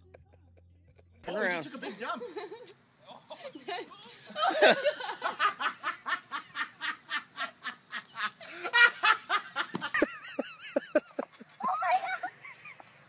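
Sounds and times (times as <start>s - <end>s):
person laughing hard: 2.0s - 13.0s.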